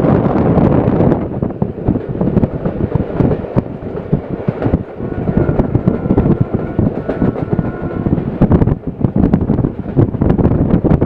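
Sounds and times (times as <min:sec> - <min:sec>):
train rumble: 0:00.0 - 0:11.0
wheels clattering on track: 0:00.4 - 0:11.0.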